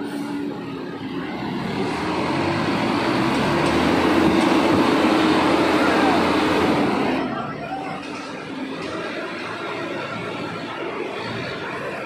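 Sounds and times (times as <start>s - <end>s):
crane diesel engine under load: 0.0s - 12.0s.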